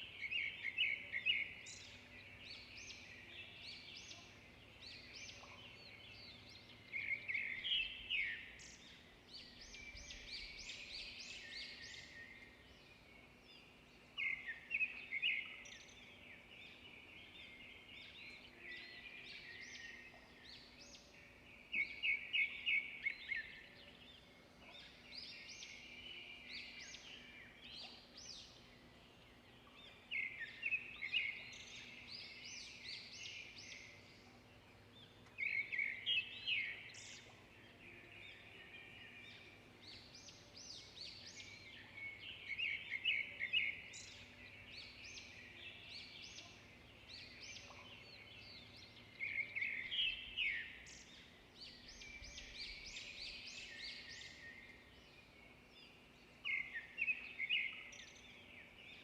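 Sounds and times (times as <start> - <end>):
songbirds singing and chirping: 0.0 - 59.0.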